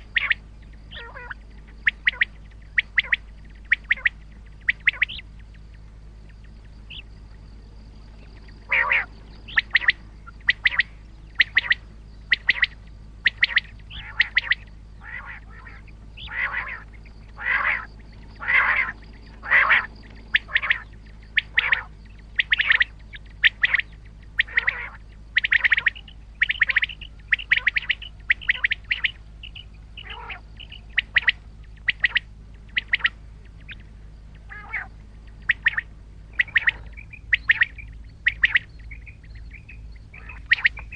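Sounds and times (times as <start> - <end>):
quail calling: 0.0 - 40.9.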